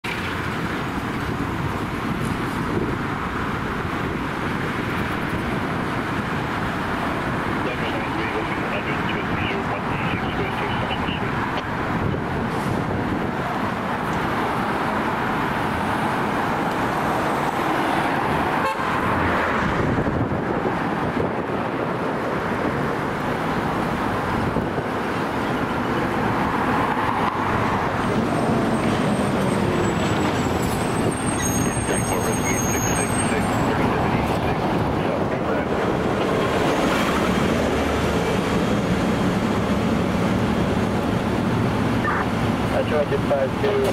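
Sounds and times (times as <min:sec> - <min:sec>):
cars passing close by: 0:00.0 - 0:43.9.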